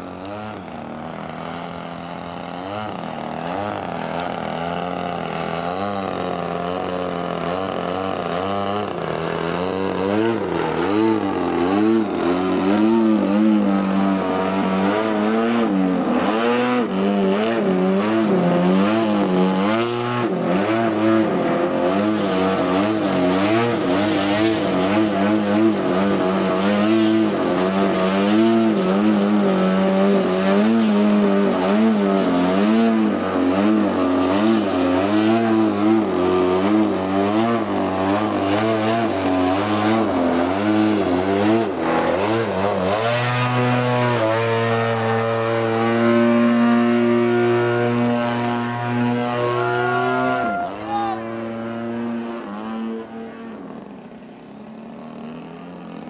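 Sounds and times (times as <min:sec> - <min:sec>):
model plane engine revving: 0:00.0 - 0:56.0.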